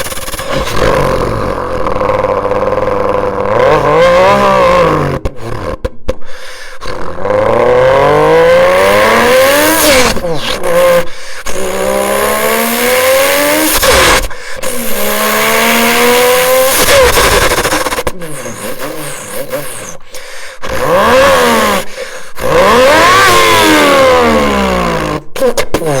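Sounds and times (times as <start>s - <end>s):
person imitating car engine: 0.0s - 26.0s.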